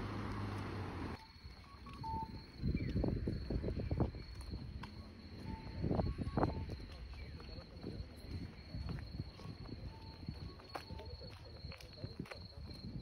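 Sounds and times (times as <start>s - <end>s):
crickets chirping: 0.0s - 13.0s
traffic rumble: 0.0s - 13.0s.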